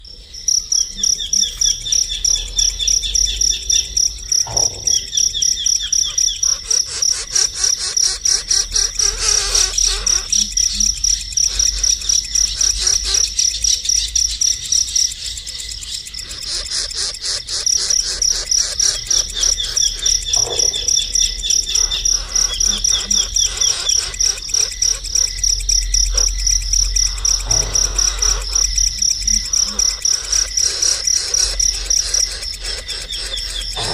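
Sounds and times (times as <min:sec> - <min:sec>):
high-pitched insect chirping: 0:00.0 - 0:33.9.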